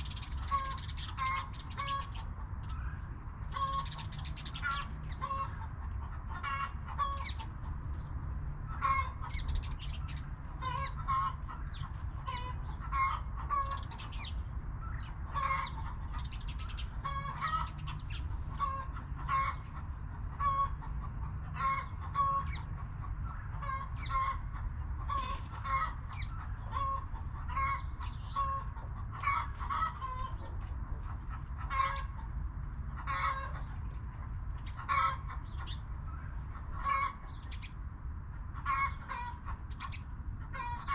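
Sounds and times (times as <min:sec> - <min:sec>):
hens clucking: 0:00.0 - 0:40.9.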